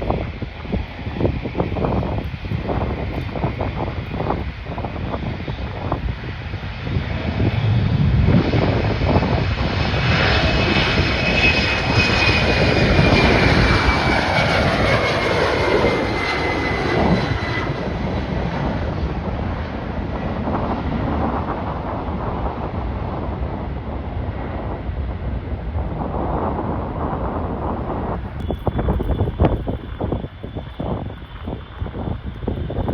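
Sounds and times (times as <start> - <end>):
airliner engines passing: 0.0 - 32.9
wind buffeting microphone: 0.0 - 32.9.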